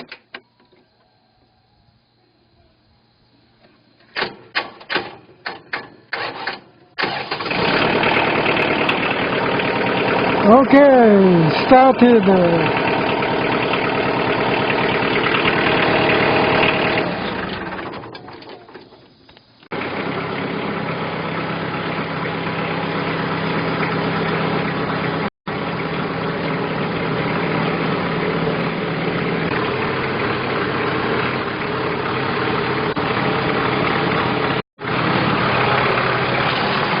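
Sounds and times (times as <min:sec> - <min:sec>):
tractor diesel engine running: 0:04.0 - 0:37.0.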